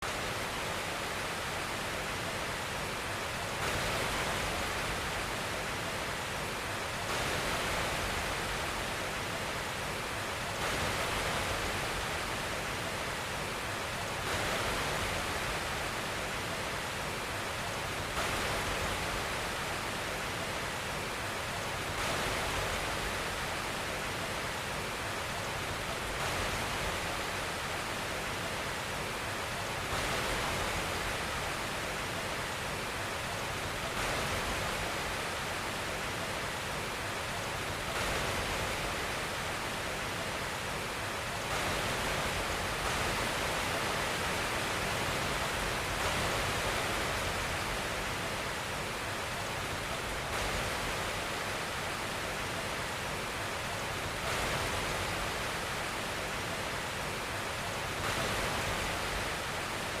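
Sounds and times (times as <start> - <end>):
white noise hiss: 0.0 - 60.0.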